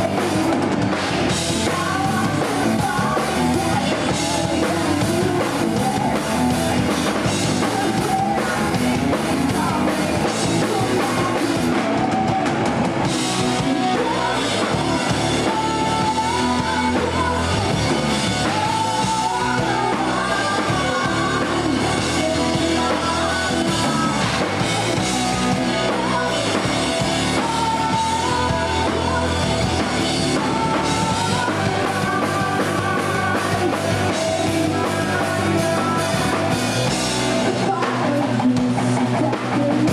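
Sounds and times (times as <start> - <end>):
live rock band playing: 0.0 - 39.9
woman singing lead: 0.0 - 39.9.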